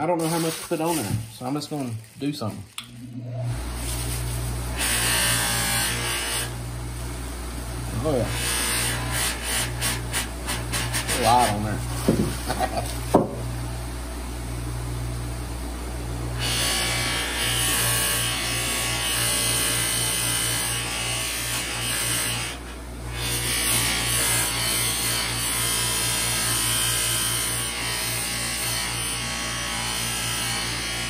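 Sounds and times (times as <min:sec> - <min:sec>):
bench buffer motor hum: 0:02.8 - 0:31.0.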